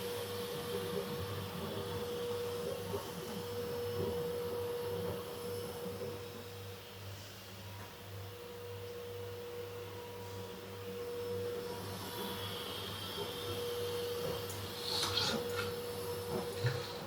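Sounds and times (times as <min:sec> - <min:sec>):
steady hum with held tone: 0:00.0 - 0:17.0.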